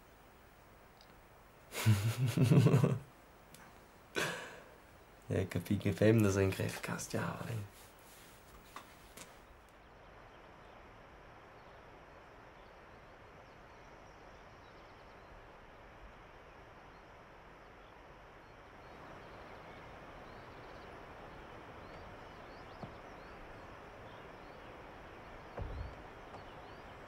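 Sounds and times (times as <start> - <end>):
steady hiss: 0.0 - 9.7, 15.0 - 27.0.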